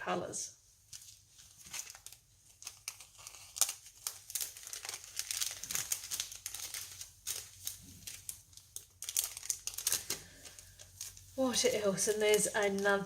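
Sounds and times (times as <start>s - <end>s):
packaging and paper crinkling: 0.8s - 13.0s.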